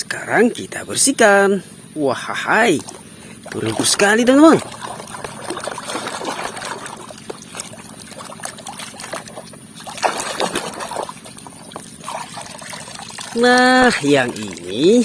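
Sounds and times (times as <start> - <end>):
water splashing in a basin: 2.4 - 15.0.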